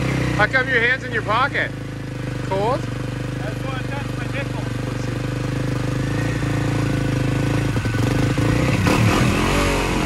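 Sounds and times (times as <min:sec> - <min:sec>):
engine idling and revving: 0:00.0 - 0:10.0.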